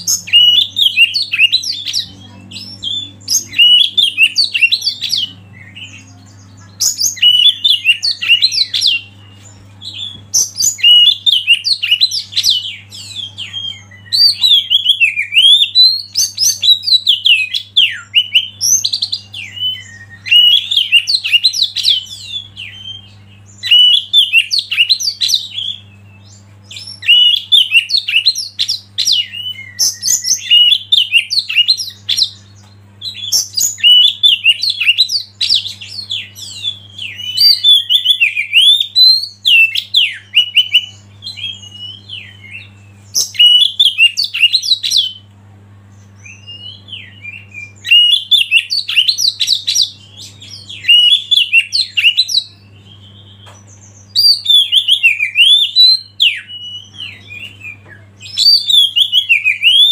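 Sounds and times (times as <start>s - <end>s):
bird singing: 0.0s - 59.9s
faint low hum: 0.0s - 59.9s.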